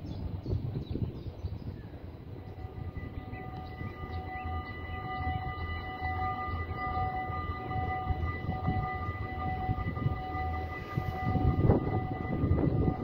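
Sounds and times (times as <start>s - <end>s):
low rumble: 0.0s - 13.0s
level crossing bells ringing: 2.3s - 13.0s.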